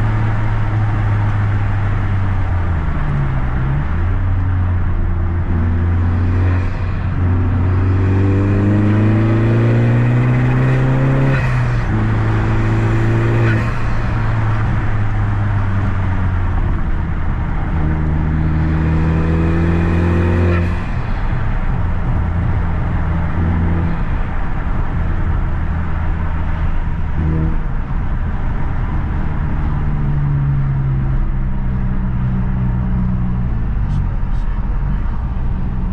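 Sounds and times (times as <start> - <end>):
car engine accelerating hard: 0.0 - 35.9.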